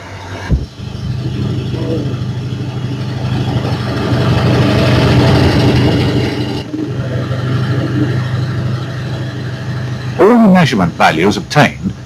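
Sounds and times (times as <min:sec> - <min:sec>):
van engine driving past: 0:00.3 - 0:11.4.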